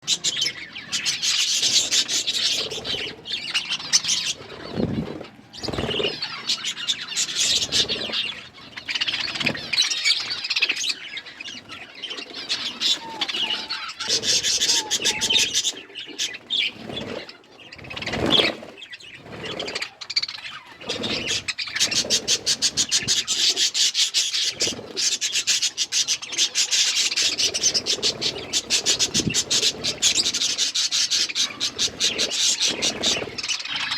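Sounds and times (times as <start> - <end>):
budgerigars chirping and chattering: 0.0 - 33.9.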